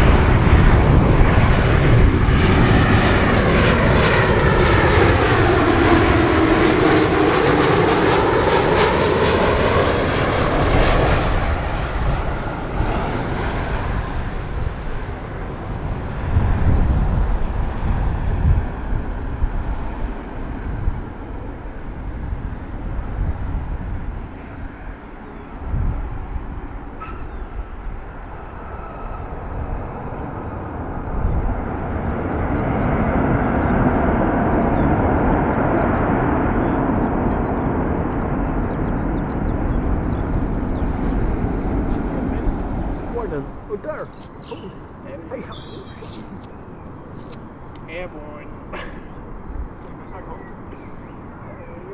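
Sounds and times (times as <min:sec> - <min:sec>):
jet engines rumbling on landing: 0:00.0 - 0:51.9.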